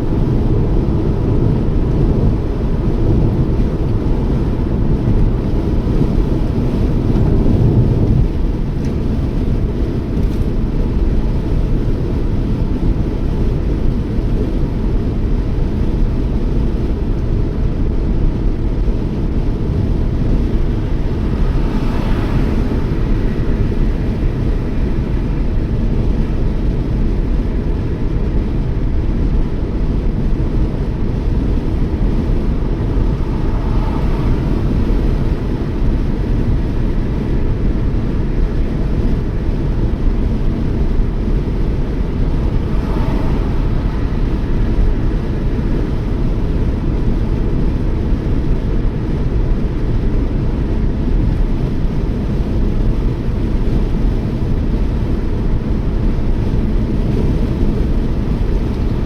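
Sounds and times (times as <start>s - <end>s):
car driving engine and tyre noise: 0.0s - 59.0s.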